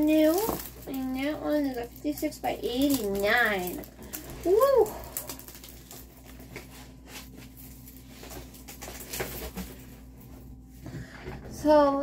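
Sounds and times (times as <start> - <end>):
plastic packaging rustling: 0.0 - 11.4
steady low hum: 0.0 - 12.0.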